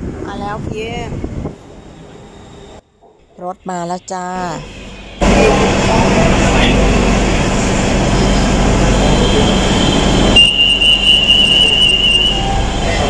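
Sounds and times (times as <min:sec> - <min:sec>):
train rumble and hiss: 0:00.0 - 0:02.8, 0:03.7 - 0:13.0
high steady tone: 0:01.6 - 0:13.0.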